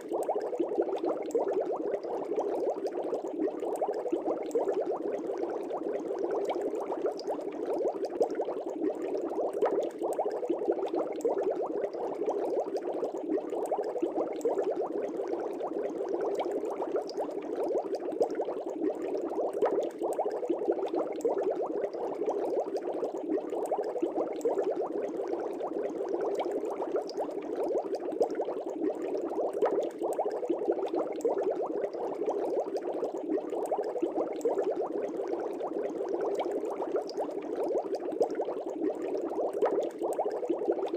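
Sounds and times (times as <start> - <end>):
fish tank aeration bubbling: 0.0 - 40.9.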